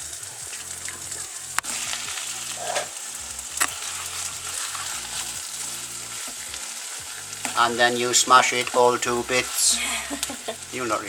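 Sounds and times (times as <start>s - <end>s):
mince sizzling in a frying pan: 0.0s - 11.0s
spoon stirring: 0.6s - 10.8s.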